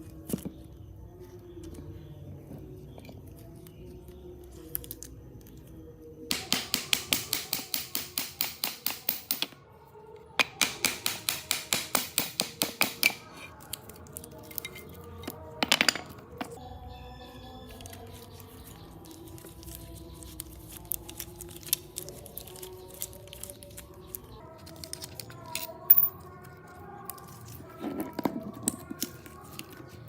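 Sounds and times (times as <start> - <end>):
low background music: 0.0 - 30.0.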